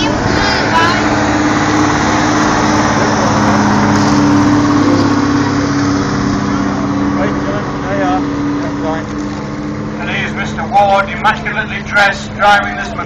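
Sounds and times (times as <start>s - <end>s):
vintage vehicle engine passing: 0.0s - 13.0s.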